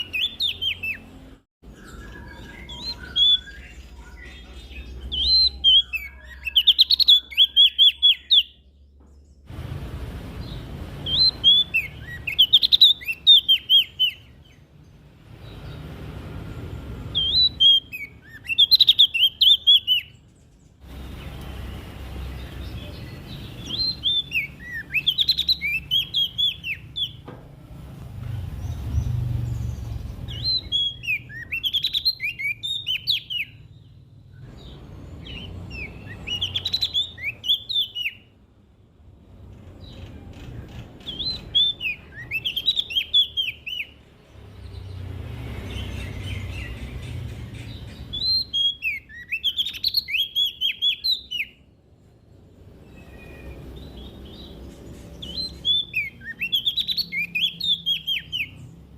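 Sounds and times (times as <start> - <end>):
bird singing chirpy notes: 0.0 - 9.6, 10.2 - 27.3, 28.2 - 38.5, 39.8 - 58.9.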